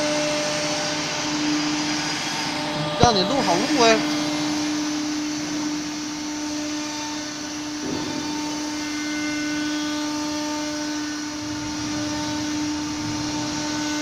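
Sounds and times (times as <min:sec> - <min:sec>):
router spindle hum: 0:00.0 - 0:14.0.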